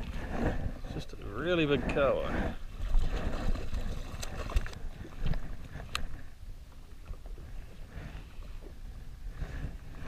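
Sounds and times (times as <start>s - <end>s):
water lapping against hull: 0.0s - 10.0s.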